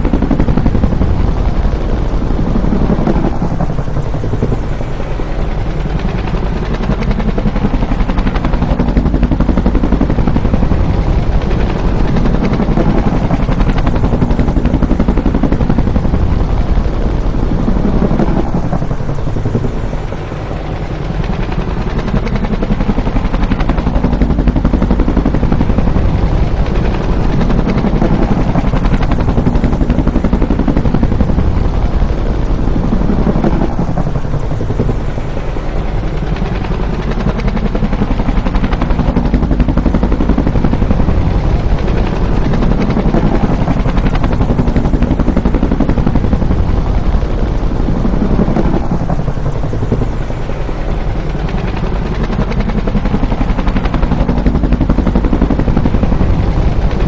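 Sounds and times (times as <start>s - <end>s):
helicopter rotor chopping: 0.0s - 57.0s.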